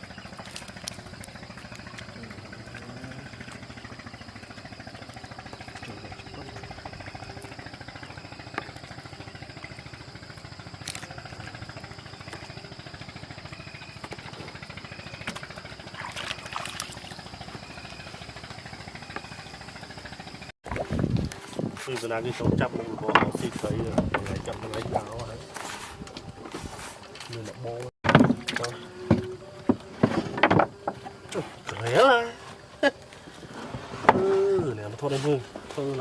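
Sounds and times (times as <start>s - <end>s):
small boat engine running: 0.0s - 36.0s.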